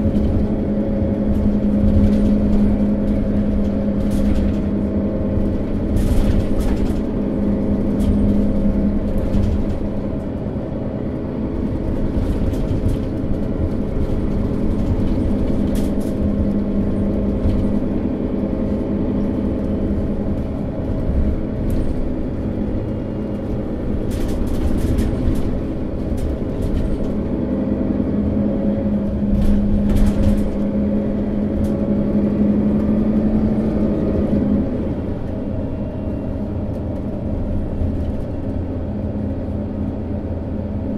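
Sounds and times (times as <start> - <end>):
bus diesel engine hum: 0.0 - 40.9.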